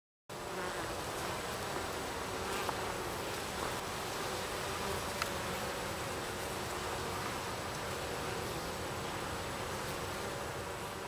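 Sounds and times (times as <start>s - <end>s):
honey bees buzzing: 0.3s - 11.0s.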